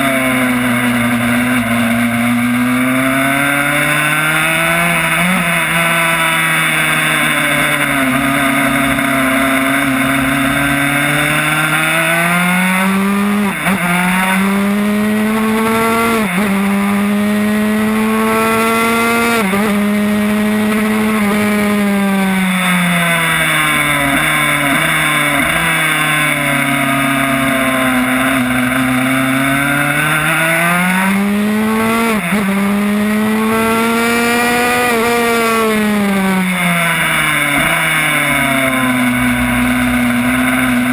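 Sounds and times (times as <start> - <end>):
two-stroke motorcycle engine revving: 0.0 - 40.9.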